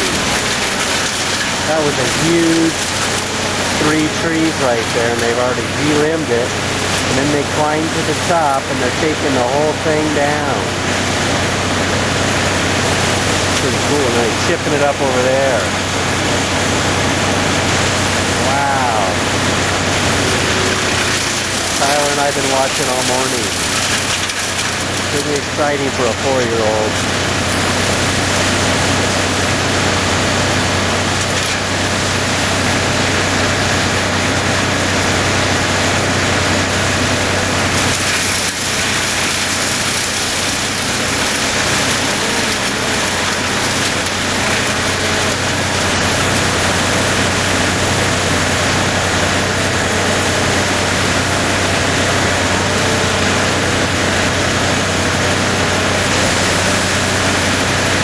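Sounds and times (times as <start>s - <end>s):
wood chipper running: 0.0s - 58.0s.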